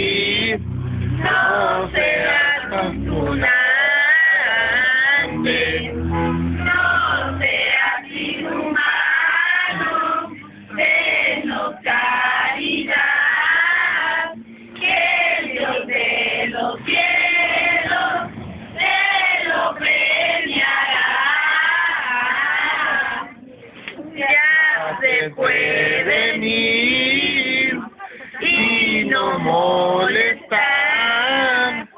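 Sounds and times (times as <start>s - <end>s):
group of people singing: 0.0s - 23.4s, 24.1s - 31.9s.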